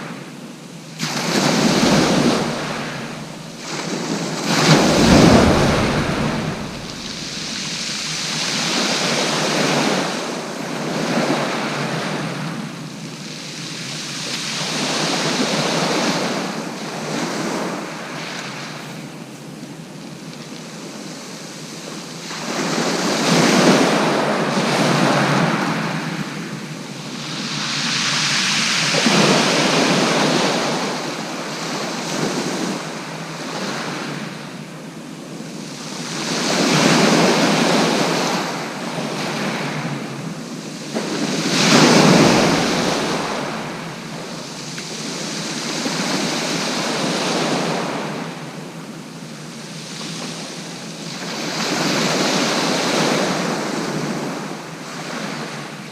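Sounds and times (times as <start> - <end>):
sea waves breaking on beach: 0.0 - 55.9.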